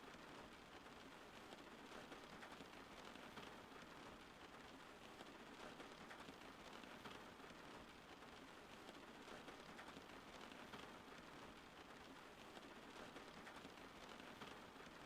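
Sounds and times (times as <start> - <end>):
faint rain patter: 0.0 - 15.0.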